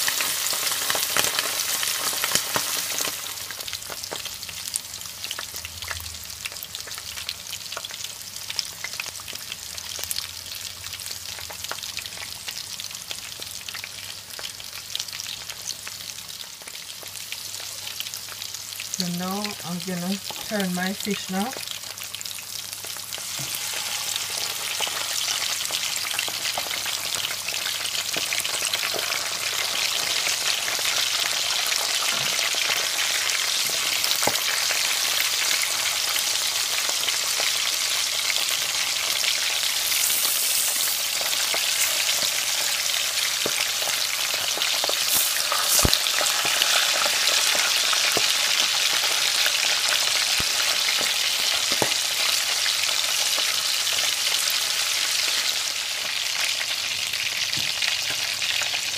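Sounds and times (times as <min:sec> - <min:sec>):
fish sizzling in hot oil: 0:00.0 - 0:58.9.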